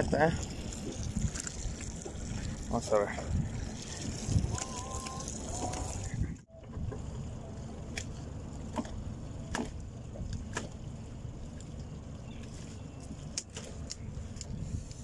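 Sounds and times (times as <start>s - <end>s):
water rumbling: 0.0s - 15.0s
wind: 0.0s - 15.0s.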